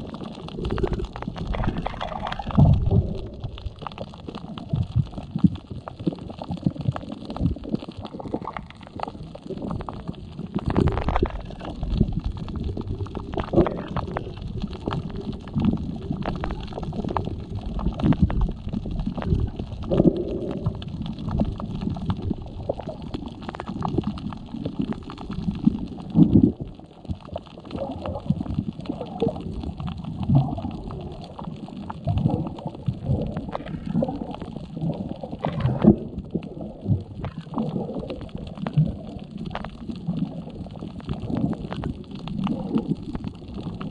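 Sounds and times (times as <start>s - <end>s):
underwater gurgling and rumbling: 0.0s - 43.9s.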